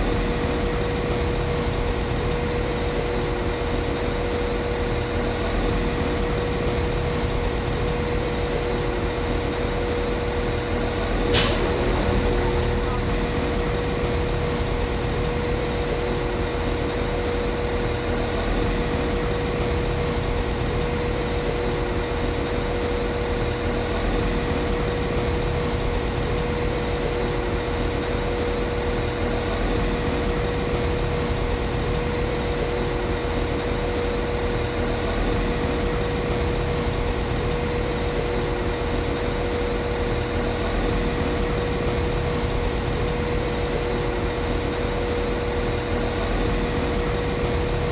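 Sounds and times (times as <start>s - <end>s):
steady hum: 0.0s - 47.9s.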